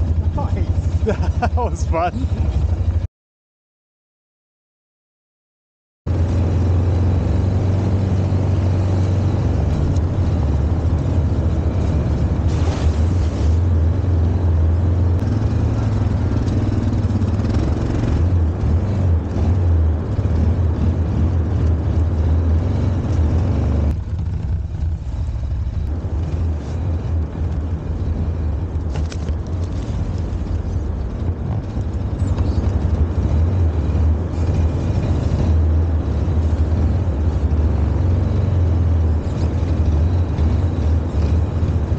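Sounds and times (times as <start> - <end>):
atv engine running: 0.0 - 3.1, 6.1 - 41.9.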